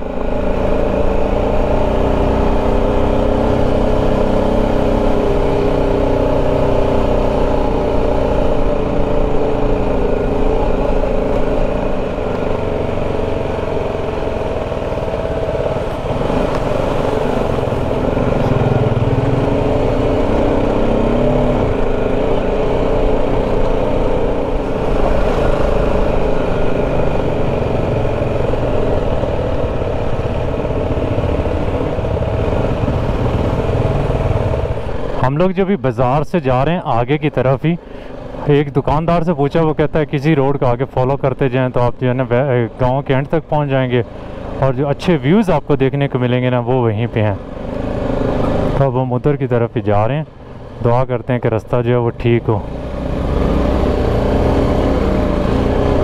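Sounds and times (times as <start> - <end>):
motorcycle engine running: 0.0 - 35.6, 39.5 - 49.0, 51.8 - 56.0.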